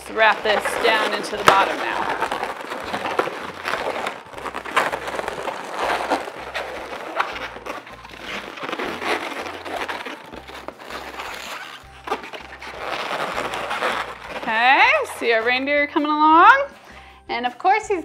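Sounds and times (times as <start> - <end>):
balloons creaking and squeaking: 0.0 - 17.1
background music with bass line: 0.0 - 18.0.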